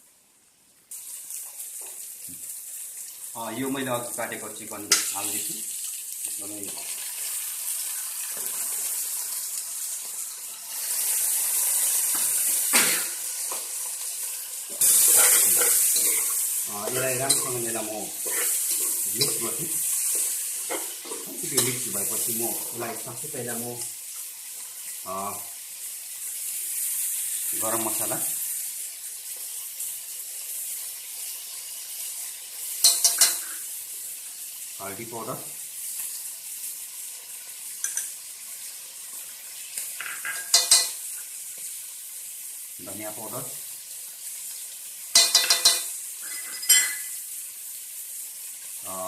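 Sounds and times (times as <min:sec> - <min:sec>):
chicken sizzling in oil: 0:00.9 - 0:49.0.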